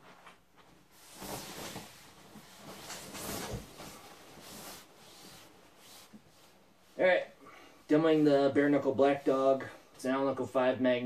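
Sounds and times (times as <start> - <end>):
clothing rustling: 0.0 - 9.4.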